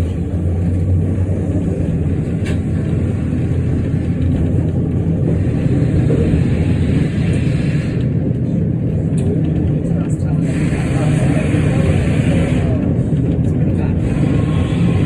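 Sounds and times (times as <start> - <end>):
electric tram rumbling: 0.0 - 15.0.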